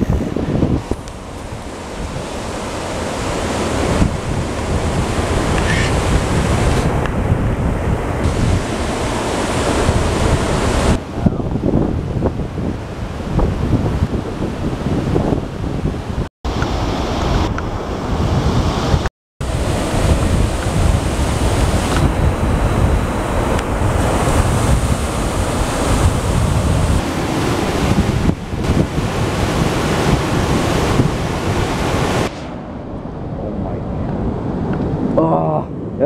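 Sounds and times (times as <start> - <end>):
surf washing on shore: 0.0 - 35.9
wind buffeting microphone: 0.0 - 36.0.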